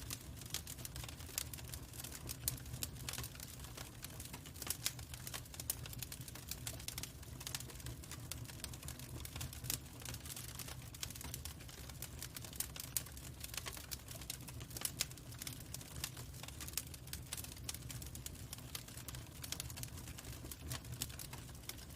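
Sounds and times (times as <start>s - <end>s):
log fire crackling: 0.0s - 21.9s
low rumble of burning fire: 0.0s - 21.9s.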